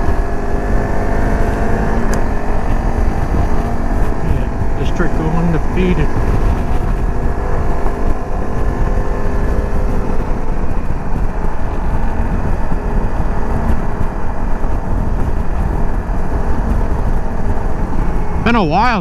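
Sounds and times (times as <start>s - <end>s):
dirt bike engine running: 0.0s - 19.0s
wind rumble on microphone: 0.0s - 19.0s.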